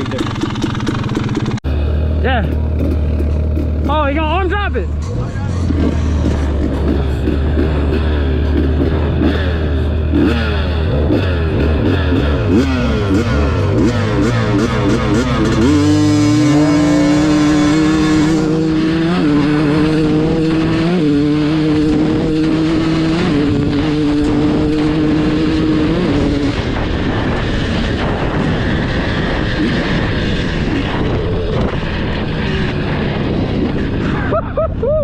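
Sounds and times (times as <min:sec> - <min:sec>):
dirt bike engine revving: 0:00.0 - 0:34.8.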